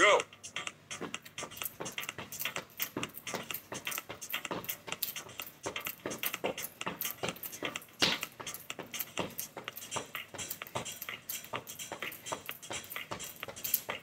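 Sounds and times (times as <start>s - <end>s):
sneakered footfalls on tile floor: 0.1s - 14.0s.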